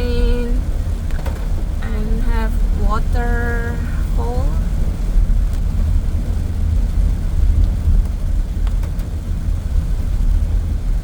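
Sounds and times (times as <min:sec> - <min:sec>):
car cabin engine and road rumble: 0:00.0 - 0:11.0.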